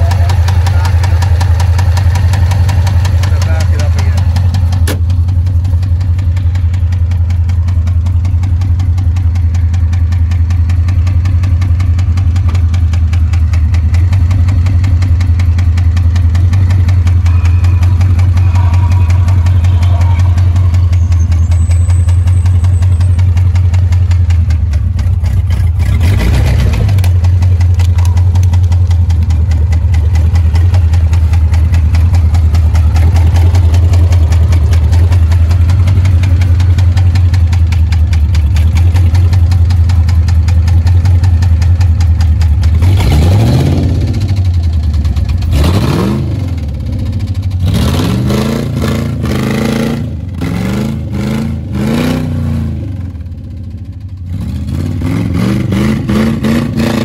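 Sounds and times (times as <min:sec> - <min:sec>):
engine idling with rapid knock: 0:00.0 - 0:56.8.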